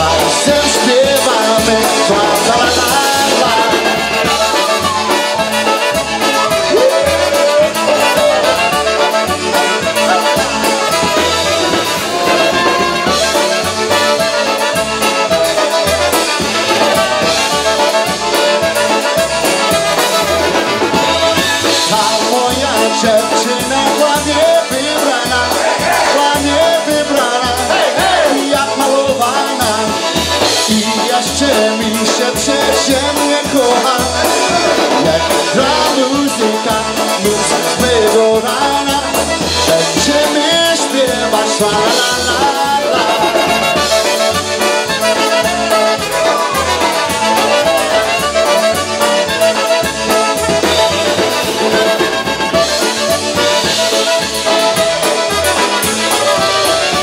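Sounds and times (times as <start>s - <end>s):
polka band playing: 0.0s - 57.0s.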